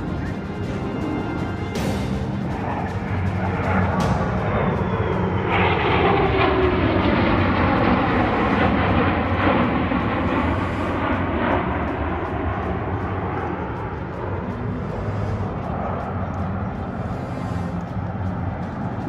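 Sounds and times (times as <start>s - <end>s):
airplane engine passing by: 0.0s - 19.0s.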